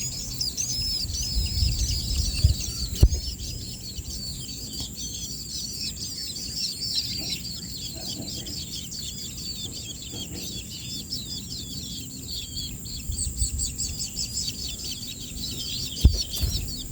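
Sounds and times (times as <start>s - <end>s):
baby birds chirping: 0.0s - 16.9s.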